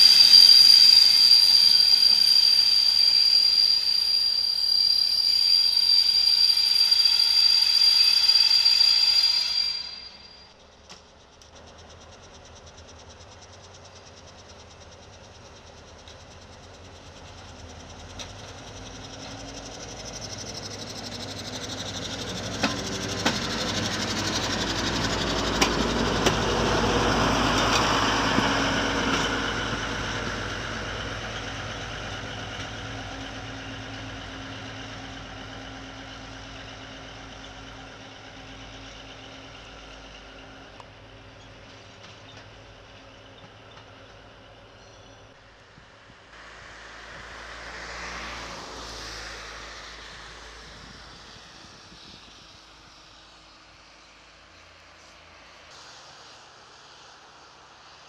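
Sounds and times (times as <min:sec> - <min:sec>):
diesel railcar engine running: 0:00.0 - 0:58.0.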